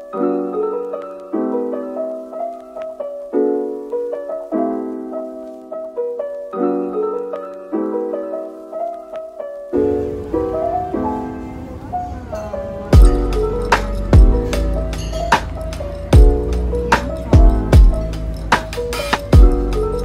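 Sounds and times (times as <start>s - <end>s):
piano playing a tune: 0.0s - 20.0s.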